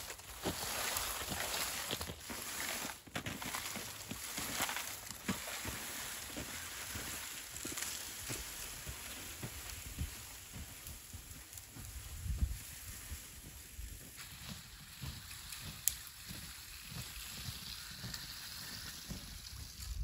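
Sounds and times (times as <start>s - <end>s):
branches scraping over snow: 0.0s - 20.0s
footsteps crunching in snow: 0.0s - 20.0s.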